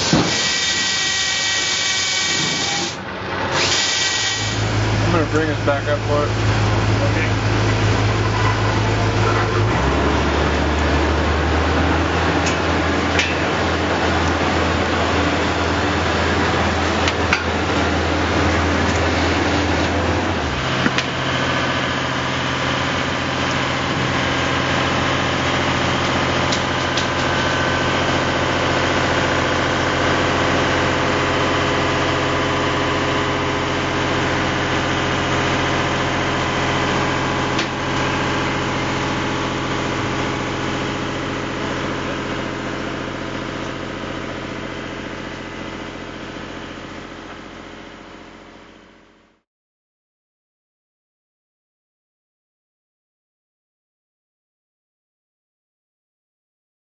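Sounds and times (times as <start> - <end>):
machine engine-like drone: 0.0 - 49.4.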